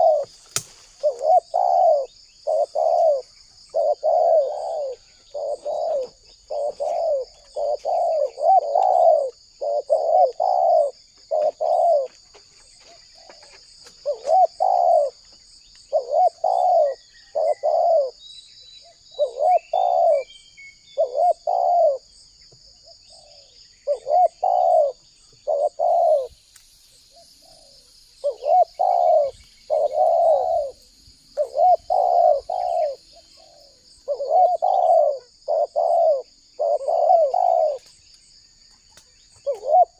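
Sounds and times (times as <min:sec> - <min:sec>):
dove cooing: 0:00.0 - 0:00.4, 0:01.0 - 0:15.2, 0:15.9 - 0:18.2, 0:18.8 - 0:20.3, 0:20.9 - 0:22.2, 0:22.8 - 0:26.4, 0:27.1 - 0:37.9, 0:39.4 - 0:39.9
faint bird chirps: 0:00.0 - 0:39.9
high insect drone: 0:00.0 - 0:39.9.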